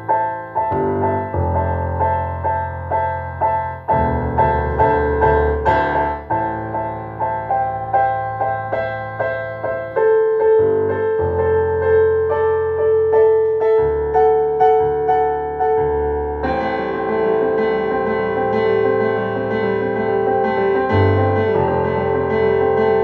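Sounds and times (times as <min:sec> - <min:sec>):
electronic keyboard piano piece: 0:00.0 - 0:23.0.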